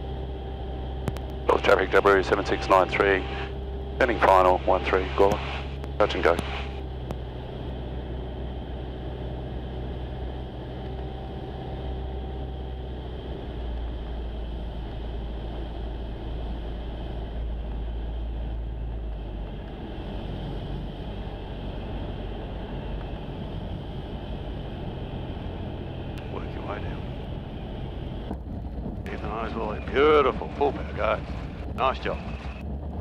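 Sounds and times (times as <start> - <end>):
airflow noise: 0.0 - 33.0
light aircraft engine drone: 0.0 - 33.0.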